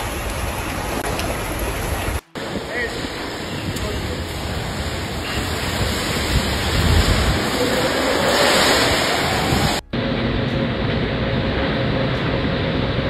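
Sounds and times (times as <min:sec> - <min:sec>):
storm wind and heavy rain: 0:00.0 - 0:13.0.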